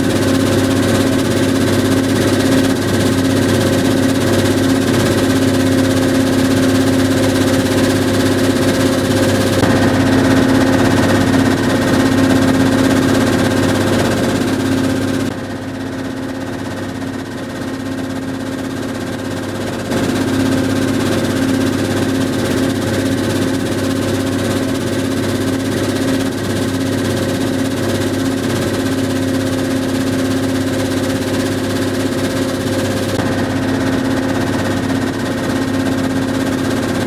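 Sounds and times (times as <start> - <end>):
stone crusher drone and rattle: 0.0 - 37.0.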